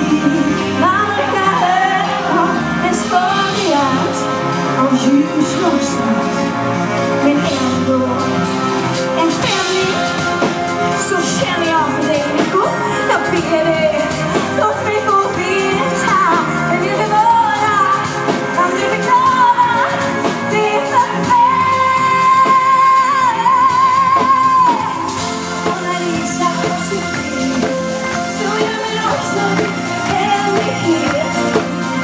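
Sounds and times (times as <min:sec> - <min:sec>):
band accompaniment: 0:00.0 - 0:32.0
woman singing pop song: 0:00.0 - 0:32.0.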